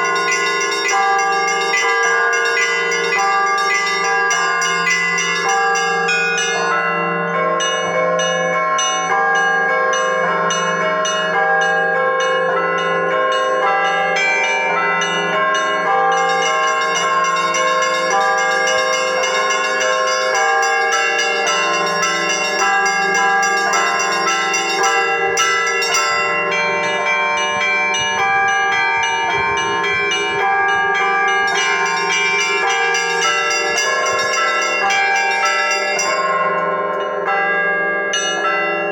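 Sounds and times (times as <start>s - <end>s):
deep bell humming: 0.0s - 38.7s
church bells ringing: 0.0s - 38.9s
small high bells ringing: 0.0s - 38.9s.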